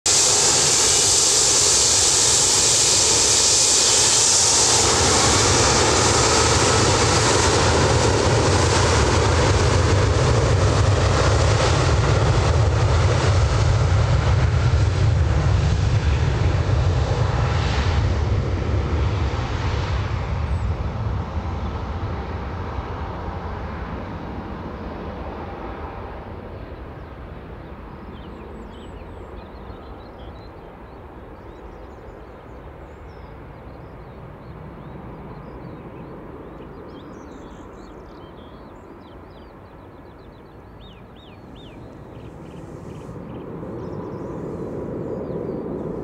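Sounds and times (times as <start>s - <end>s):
jet airliner taking off: 0.1s - 46.0s.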